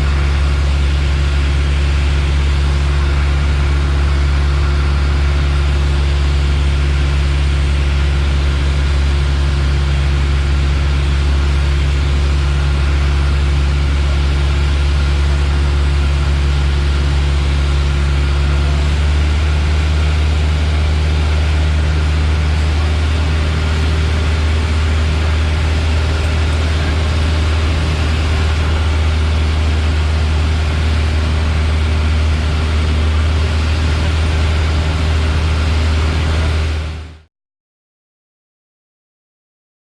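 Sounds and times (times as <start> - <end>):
propeller plane engine droning: 0.0 - 37.3.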